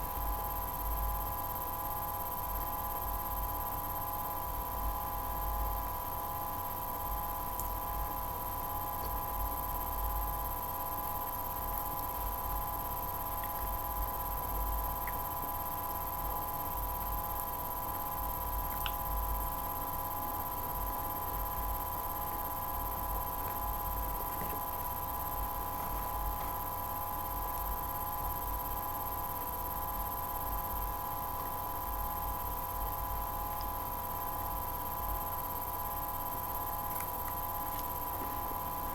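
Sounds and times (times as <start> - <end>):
steady electrical hum: 0.0 - 38.9.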